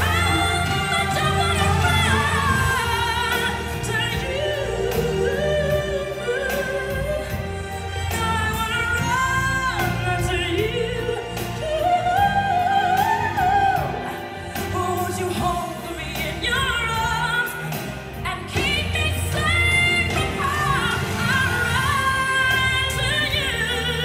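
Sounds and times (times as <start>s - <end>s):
backing track: 0.0s - 24.0s
woman singing pop ballad: 0.0s - 24.0s.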